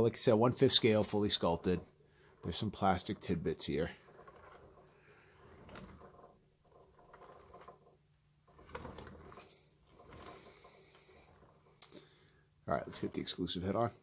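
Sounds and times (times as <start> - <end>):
faint handling rustles and scrapes: 0.0 - 14.0.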